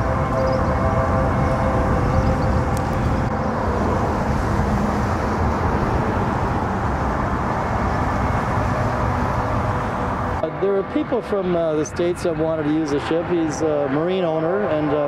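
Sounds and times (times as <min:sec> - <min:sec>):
highway traffic roar: 0:00.0 - 0:15.0.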